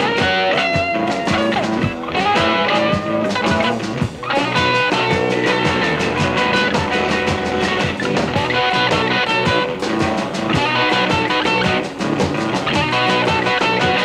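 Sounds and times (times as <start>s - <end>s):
drums: 0.0s - 14.0s
electric guitar: 0.0s - 14.0s
electric slide guitar: 0.0s - 14.0s.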